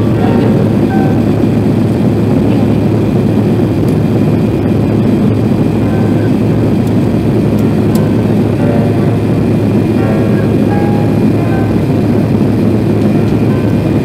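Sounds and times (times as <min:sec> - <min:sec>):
airplane cabin engine hum: 0:00.0 - 0:14.0
rushing airflow: 0:00.0 - 0:14.0.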